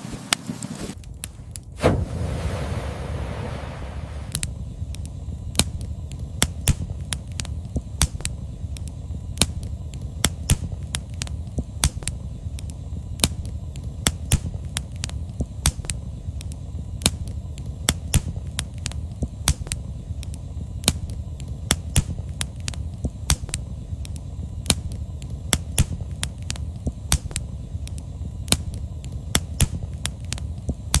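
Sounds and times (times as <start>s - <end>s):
firewood crackling and popping: 0.0s - 31.0s
low steady fire rumble: 0.0s - 31.0s.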